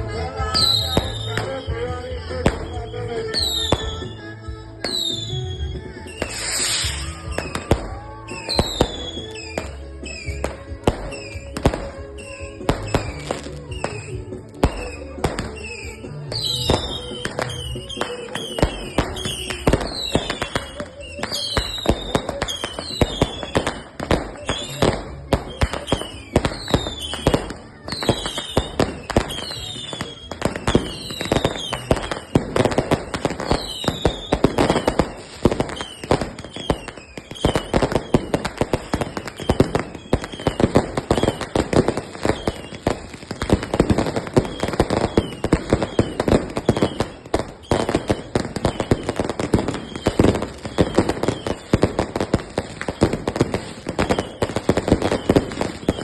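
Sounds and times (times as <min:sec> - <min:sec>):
fireworks bangs and crackles: 0:00.0 - 0:56.0
fireworks falling whistles: 0:00.0 - 0:56.0.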